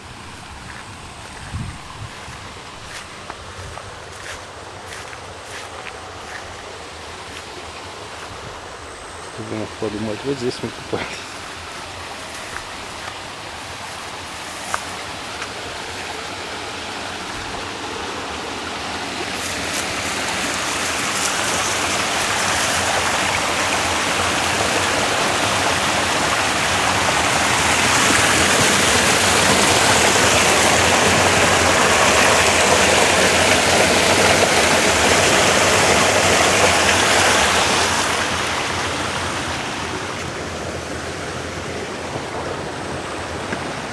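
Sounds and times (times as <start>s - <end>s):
water rushing down a waterfall: 2.2s - 43.9s.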